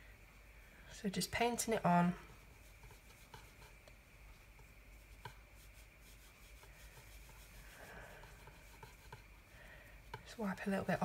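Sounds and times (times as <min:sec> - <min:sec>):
paintbrush brushing on paper: 0:01.4 - 0:11.0.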